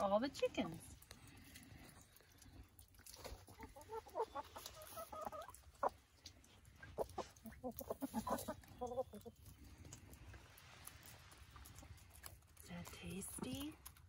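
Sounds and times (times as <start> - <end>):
hens clucking: 0.0 - 13.8.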